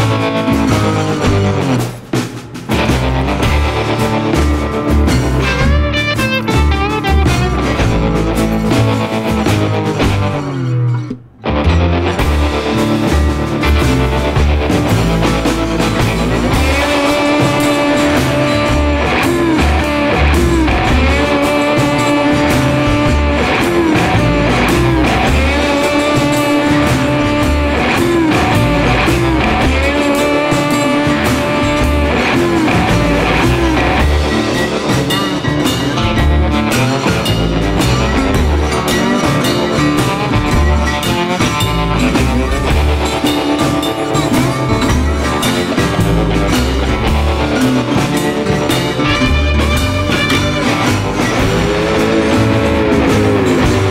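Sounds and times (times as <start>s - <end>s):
guitar-led rock music: 0.0s - 53.9s.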